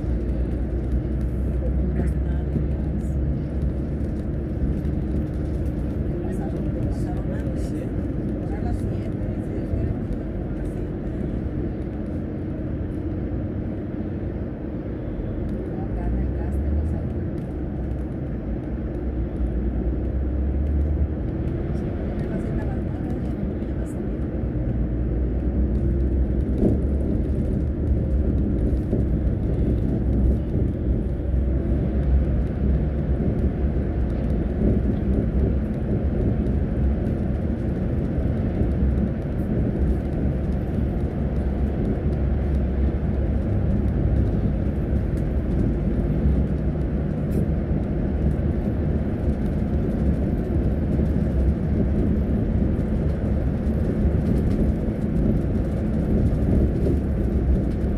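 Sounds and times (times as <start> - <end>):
bus engine and road noise: 0.0 - 57.9.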